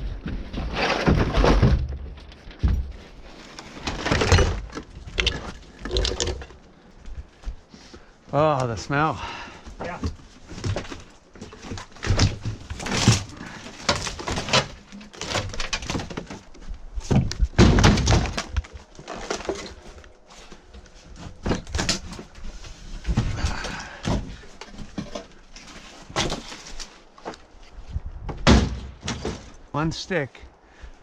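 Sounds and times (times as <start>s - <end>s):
debris clunking and thudding: 0.0s - 7.2s, 9.8s - 20.0s, 20.8s - 27.5s, 28.2s - 29.7s.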